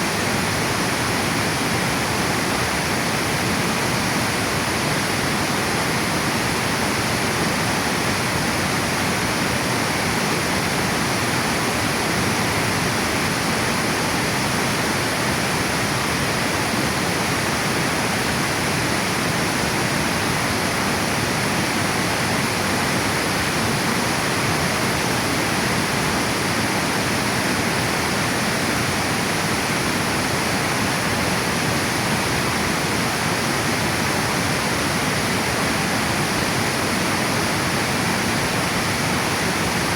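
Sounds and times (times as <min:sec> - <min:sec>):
water rushing over a dam: 0:00.0 - 0:39.9.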